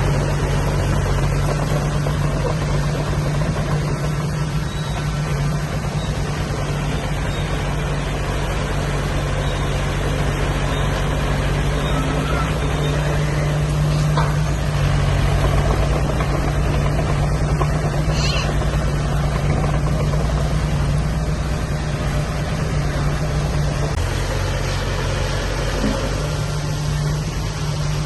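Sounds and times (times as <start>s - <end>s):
heavy machinery diesel engine running: 0.0s - 28.0s.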